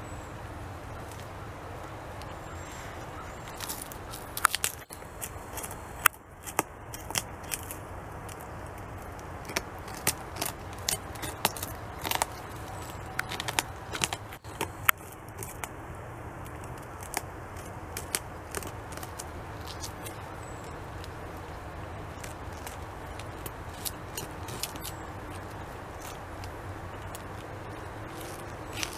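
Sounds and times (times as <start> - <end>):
beaver gnawing bark: 0.4 - 28.9.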